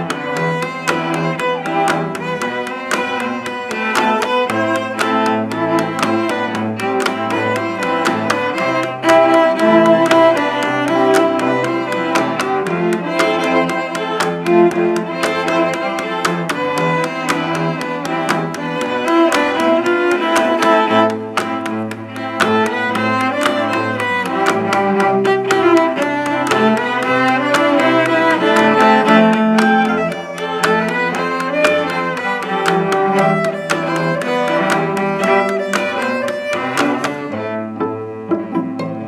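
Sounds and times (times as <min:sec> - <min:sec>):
bowed cello melody: 0:00.0 - 0:39.0
plucked cello notes: 0:00.0 - 0:39.0
taps on cello bridge: 0:00.0 - 0:39.0.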